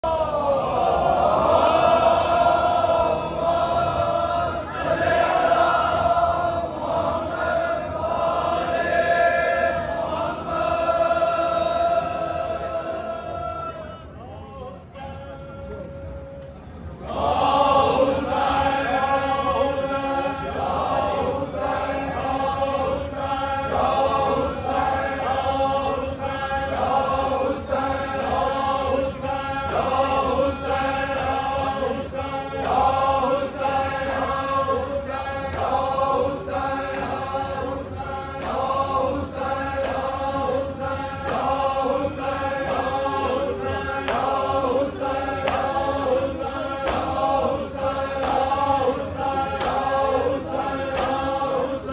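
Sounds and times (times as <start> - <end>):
men chanting in unison: 0.0 - 14.0, 17.1 - 51.9.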